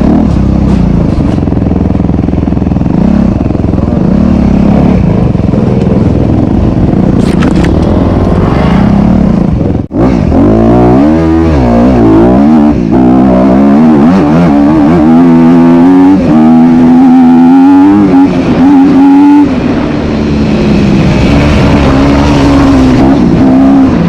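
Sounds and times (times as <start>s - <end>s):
motorcycle engine running hard: 0.0s - 24.0s.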